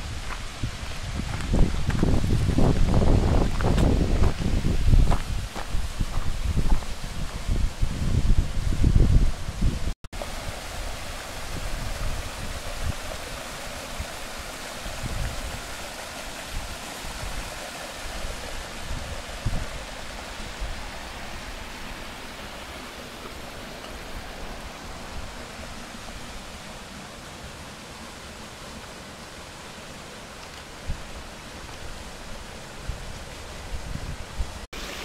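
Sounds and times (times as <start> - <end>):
mountain water flowing: 0.0 - 35.0.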